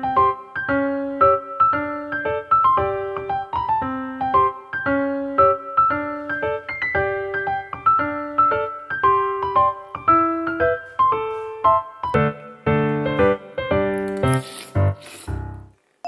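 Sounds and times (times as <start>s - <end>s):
gentle piano melody: 0.0s - 15.8s.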